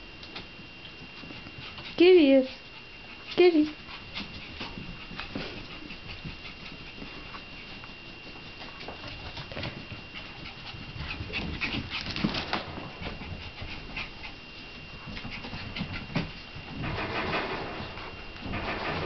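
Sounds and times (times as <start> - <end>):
puppies scuffling on rug: 0.2 - 16.9.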